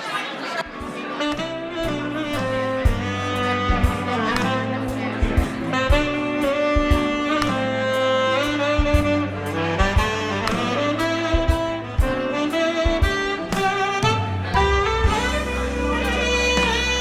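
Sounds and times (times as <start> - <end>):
saxophone melody: 0.7 - 17.0
backing track with drum beat: 0.8 - 17.0.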